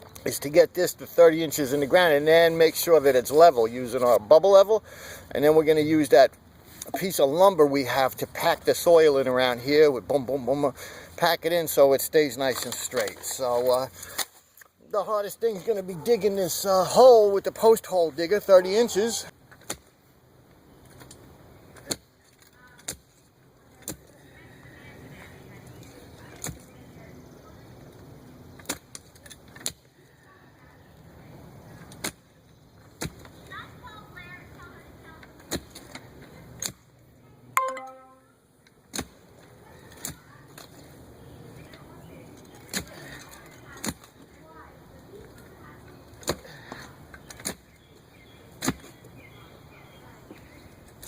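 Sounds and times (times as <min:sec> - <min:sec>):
steady background noise: 0:00.0 - 0:51.0.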